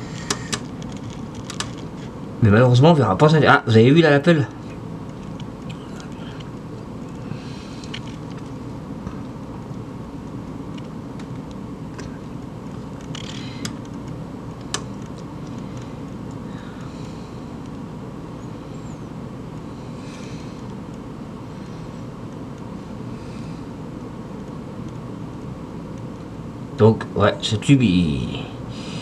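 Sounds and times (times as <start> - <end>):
fluorescent ballast mains hum: 0.0 - 29.0.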